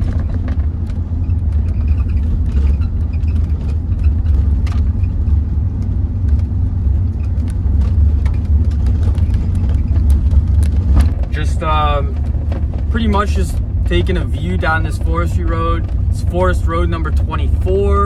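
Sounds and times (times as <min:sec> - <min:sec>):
engine and road rumble: 0:00.0 - 0:18.0
ticks and rattles: 0:00.0 - 0:18.0.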